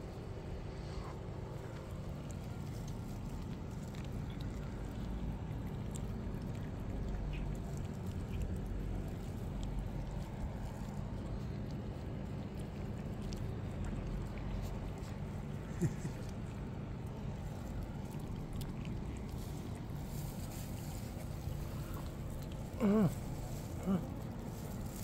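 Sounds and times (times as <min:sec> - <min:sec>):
cats crunching dry kibble: 0:00.0 - 0:25.0.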